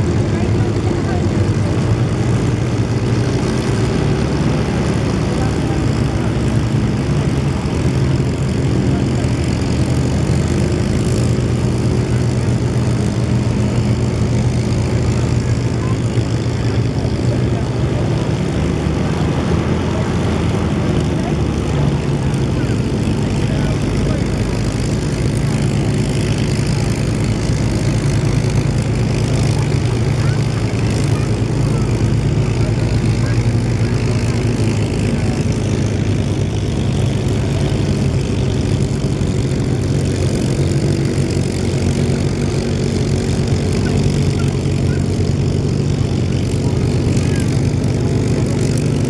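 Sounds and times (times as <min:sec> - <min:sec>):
piston aircraft engines running: 0:00.0 - 0:49.0.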